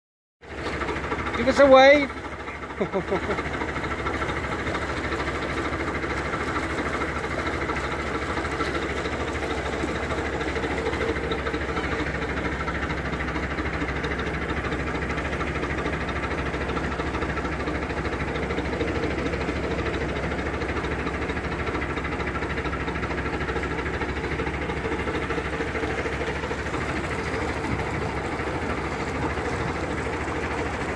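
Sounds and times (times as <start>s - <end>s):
diesel boat engine chugging: 0.4s - 30.9s.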